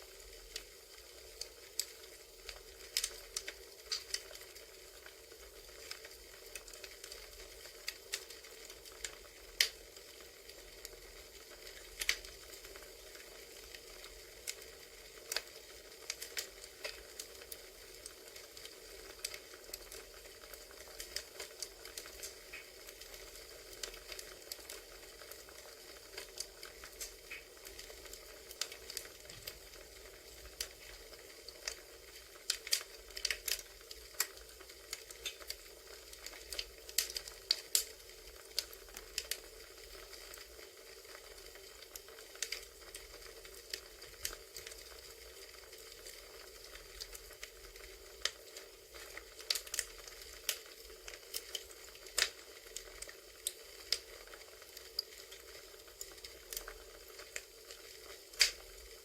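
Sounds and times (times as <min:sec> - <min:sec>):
campfire crackling: 0:00.0 - 0:59.0
faint hiss: 0:00.0 - 0:59.0.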